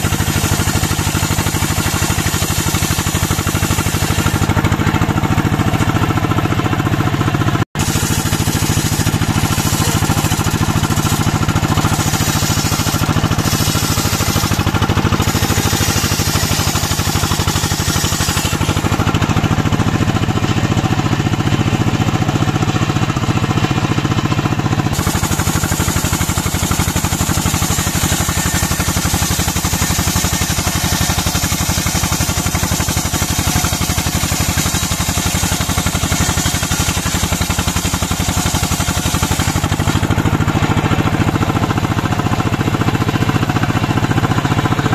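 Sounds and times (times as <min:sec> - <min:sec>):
sawmill engine running: 0:00.0 - 0:44.9.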